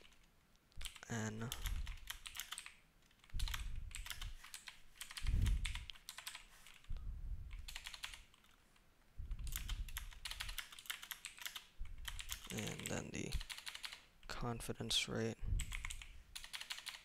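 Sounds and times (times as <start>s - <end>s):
computer keyboard typing: 0.0s - 6.9s, 7.5s - 8.6s, 9.3s - 14.1s, 15.6s - 17.0s.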